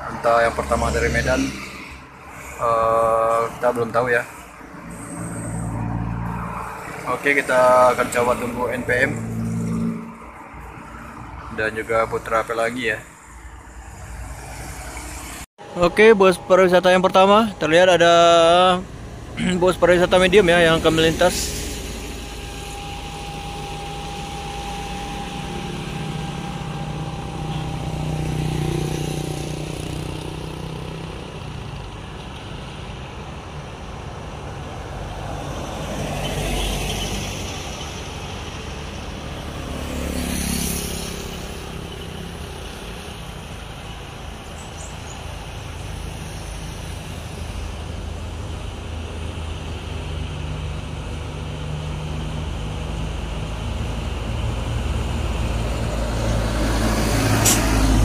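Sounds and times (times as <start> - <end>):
cars passing: 0.0 - 58.0
motorcycles passing: 0.0 - 58.0.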